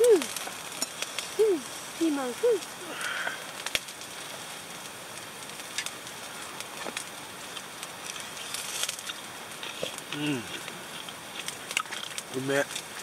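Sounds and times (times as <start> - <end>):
charcoal crackling: 0.0 - 13.0
food sizzling on grill: 0.0 - 13.0.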